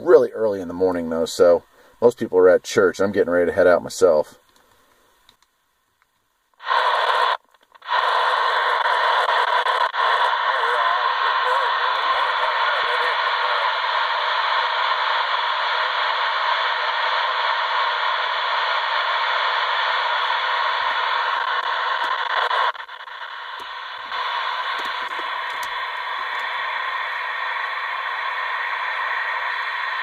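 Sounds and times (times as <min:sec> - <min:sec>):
cb radio static hiss: 0:00.0 - 0:30.0.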